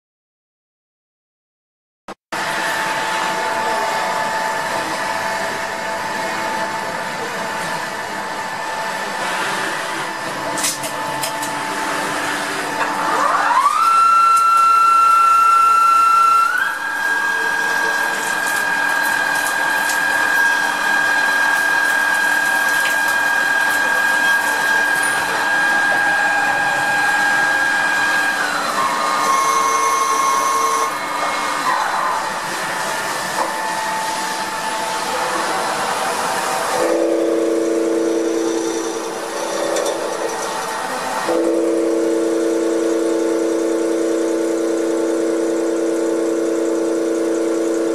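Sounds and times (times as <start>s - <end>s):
lathe spindle whining: 2.4s - 47.9s.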